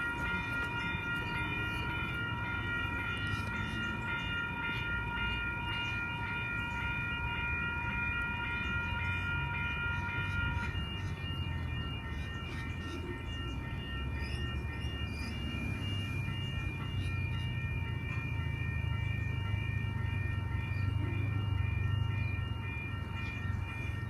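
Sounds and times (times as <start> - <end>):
electric train arriving: 0.0 - 24.0.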